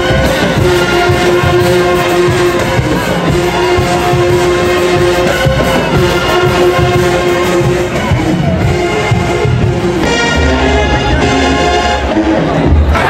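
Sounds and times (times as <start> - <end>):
brass band playing held notes: 0.0 - 13.0.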